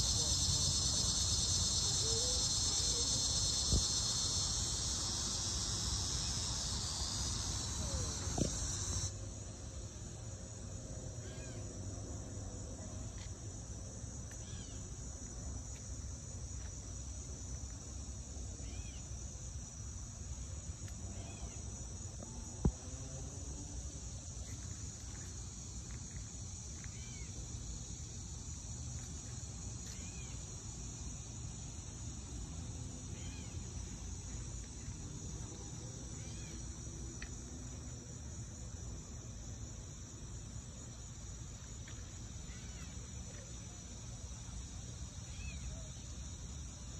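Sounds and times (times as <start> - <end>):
insect chorus: 0.0 - 46.9.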